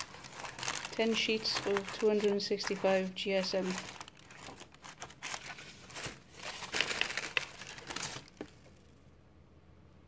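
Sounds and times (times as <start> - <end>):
paper rustling and crinkling: 0.0 - 8.9.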